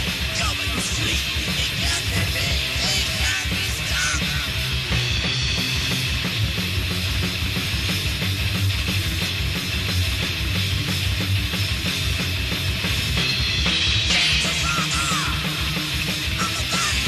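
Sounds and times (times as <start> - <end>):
metal band playing: 0.0 - 17.0.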